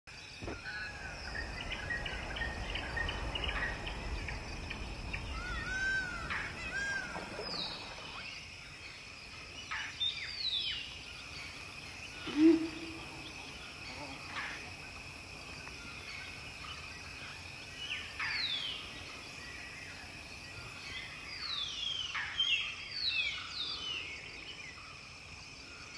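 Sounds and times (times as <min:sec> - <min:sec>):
insect drone: 0:00.1 - 0:25.9
birds calling: 0:00.2 - 0:24.0.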